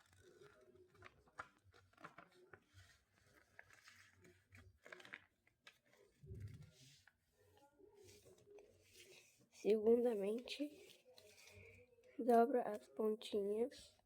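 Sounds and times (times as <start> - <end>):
paper being folded and creased: 0.0 - 12.1.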